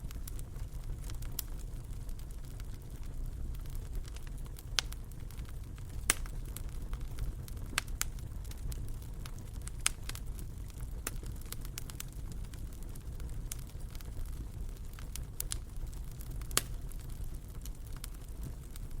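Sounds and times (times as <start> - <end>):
sharp pops of fire: 0.0 - 19.0
wood fire crackling: 0.0 - 19.0.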